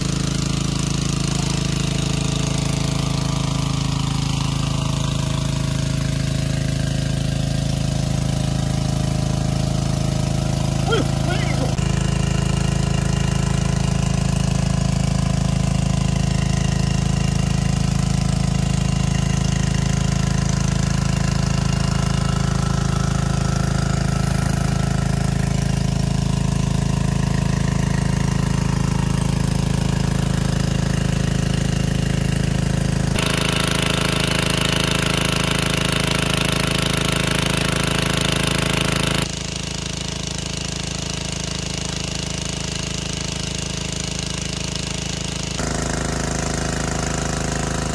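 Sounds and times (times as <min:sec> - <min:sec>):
engine-driven water pump running: 0:00.0 - 0:47.9.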